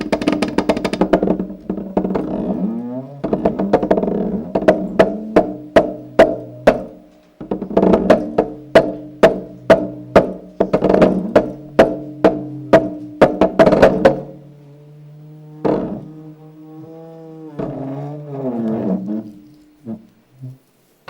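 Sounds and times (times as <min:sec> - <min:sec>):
sharp knocks: 0:00.0 - 0:20.1.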